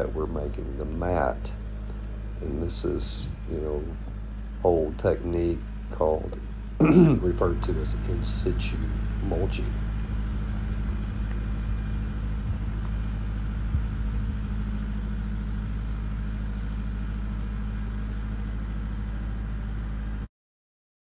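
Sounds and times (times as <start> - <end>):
tractor engine running: 0.0 - 20.3.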